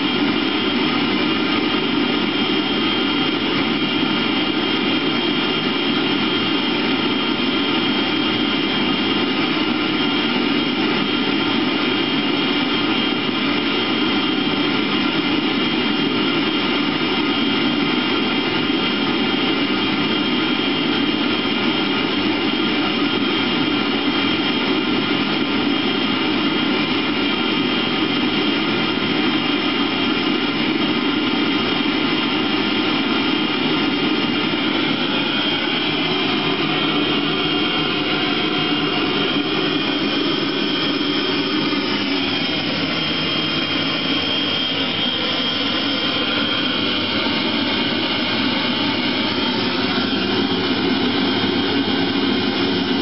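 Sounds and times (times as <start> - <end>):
heater blower droning: 0.0 - 53.0.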